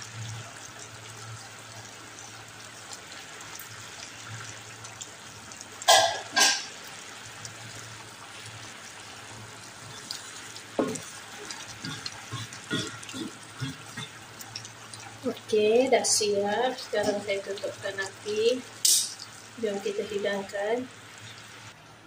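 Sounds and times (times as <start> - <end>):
curry bubbling in a pan: 0.0 - 21.8.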